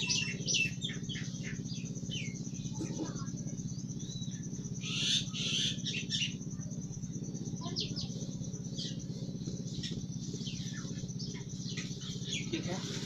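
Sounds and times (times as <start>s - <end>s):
high-pitched pulsing trill: 0.0s - 13.0s
steady low hum: 0.0s - 13.0s.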